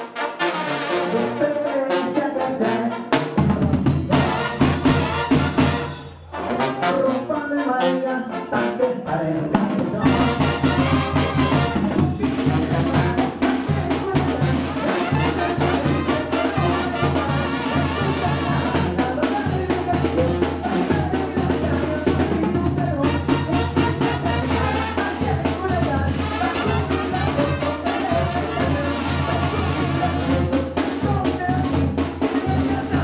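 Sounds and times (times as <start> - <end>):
brass band music with drums: 0.0 - 33.0.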